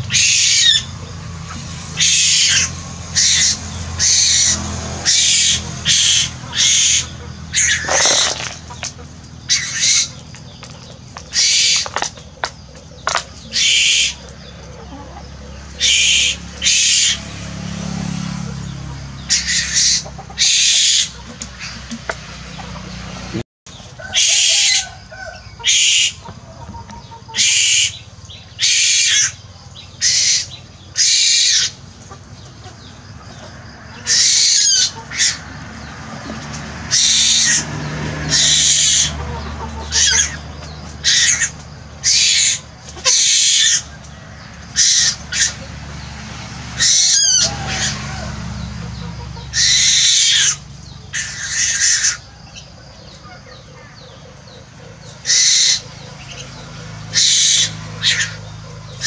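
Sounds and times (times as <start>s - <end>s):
young bird screeching: 0.0s - 17.4s, 19.2s - 21.9s, 24.0s - 31.8s, 32.8s - 35.5s, 36.9s - 45.7s, 46.8s - 59.0s.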